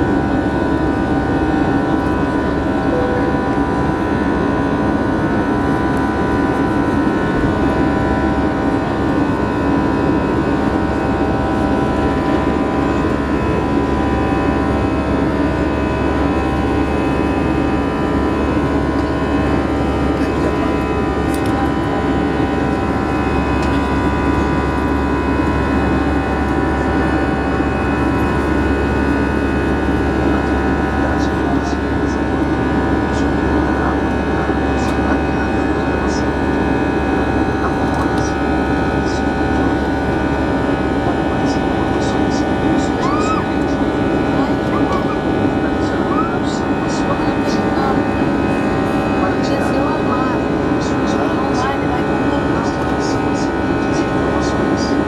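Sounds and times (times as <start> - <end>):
jet engine roar in cabin: 0.0 - 55.0
jet engine whining tones: 0.0 - 55.0.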